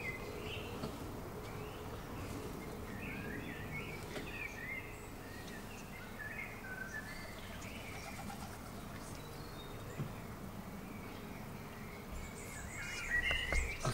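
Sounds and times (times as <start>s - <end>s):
garden birds chirping: 0.0s - 13.9s.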